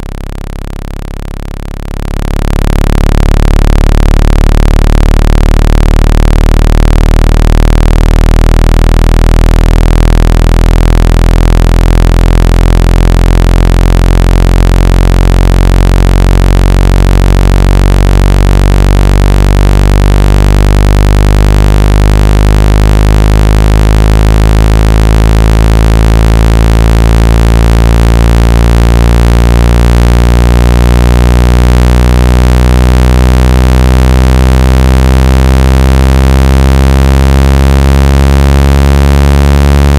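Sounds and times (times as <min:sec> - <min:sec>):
low buzzing tone: 0:00.0 - 0:39.9.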